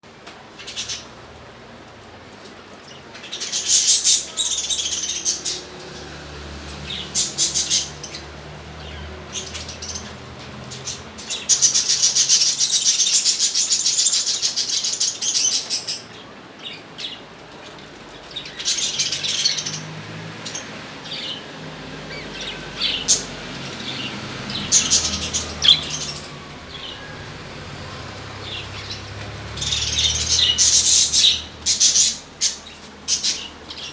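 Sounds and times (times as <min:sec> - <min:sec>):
birds chirping and chattering: 0:00.1 - 0:33.9.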